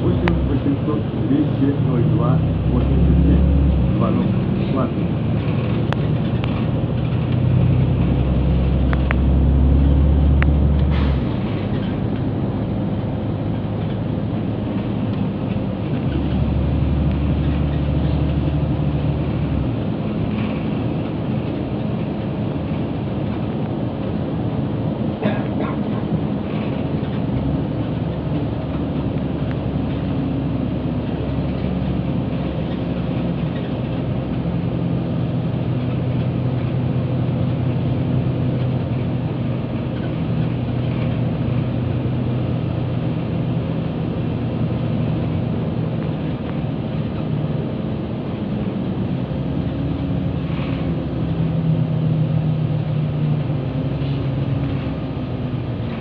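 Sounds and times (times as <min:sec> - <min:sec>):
road rumble: 0:00.0 - 0:56.0
vehicle engine drone: 0:00.0 - 0:56.0.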